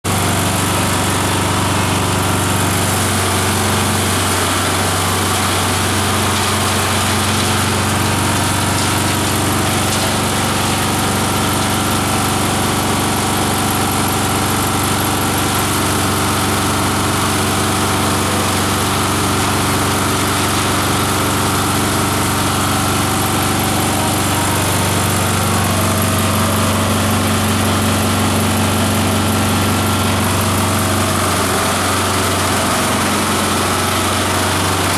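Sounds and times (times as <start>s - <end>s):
electric motor humming: 0.1s - 34.9s
shredder blades whirring: 0.1s - 34.9s
plants being shredded: 0.8s - 32.5s.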